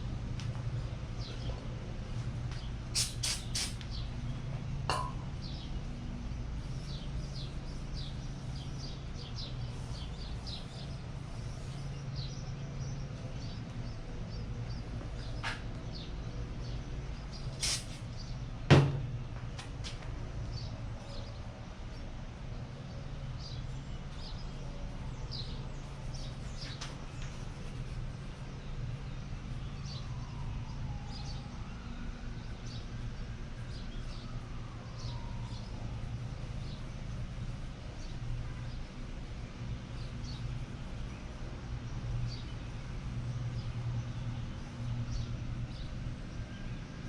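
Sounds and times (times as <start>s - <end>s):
faint birds chirping: 0.5s - 46.9s.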